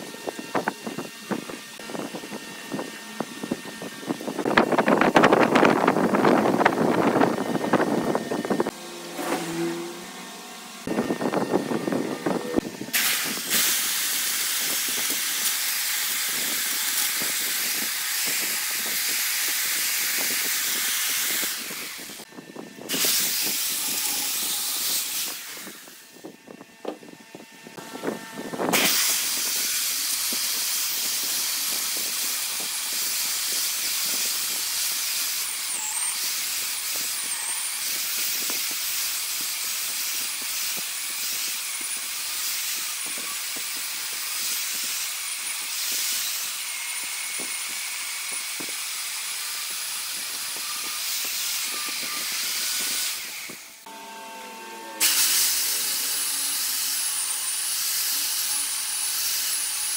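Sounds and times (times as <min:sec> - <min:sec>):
lathe tool cutting spinning wood: 0:00.0 - 0:59.9.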